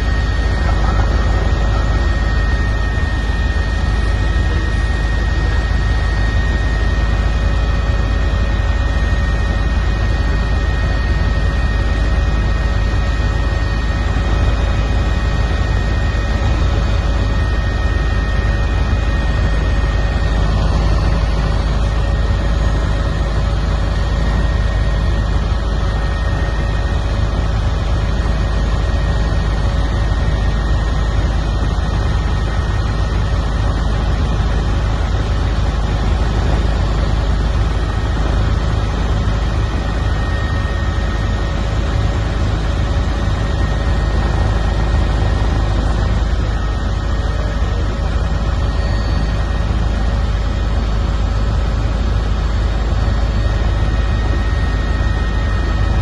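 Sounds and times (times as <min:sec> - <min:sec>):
constant whine: 0:00.0 - 0:56.0
helicopter engine and rotor drone: 0:00.0 - 0:56.0.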